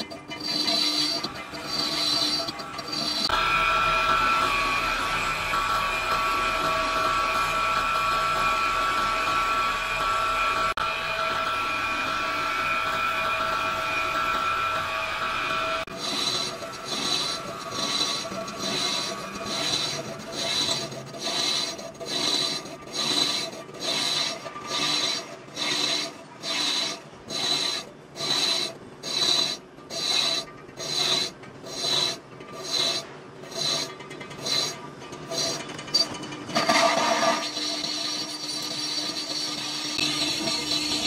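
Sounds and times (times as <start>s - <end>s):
steady louder rasping noise: 0.0s - 35.8s
file rasping on metal: 0.0s - 41.0s.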